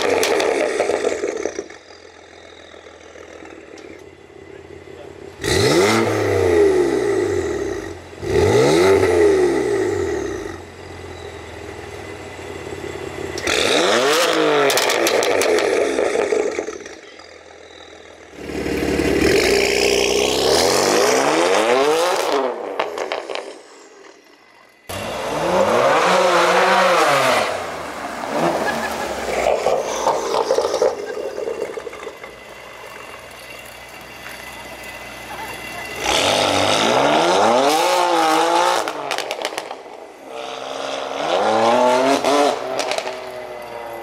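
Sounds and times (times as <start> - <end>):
car accelerating along street: 0.0 - 44.0
car engine revving with crackles: 0.0 - 44.0.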